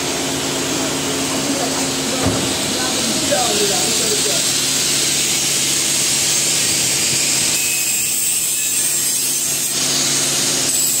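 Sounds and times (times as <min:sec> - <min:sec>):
engine and hydraulic drone: 0:00.0 - 0:11.0
loud hydraulic hiss: 0:01.8 - 0:11.0.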